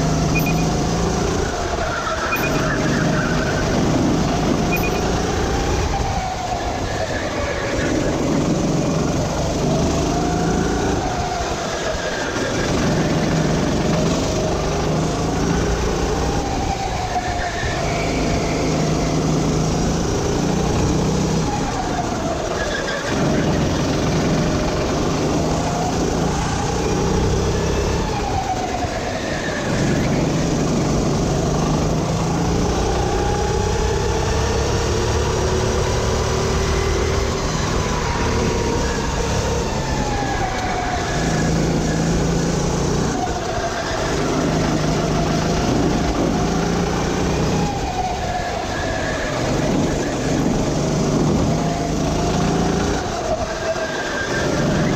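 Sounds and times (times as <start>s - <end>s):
go-kart engine revving: 0.0s - 54.9s.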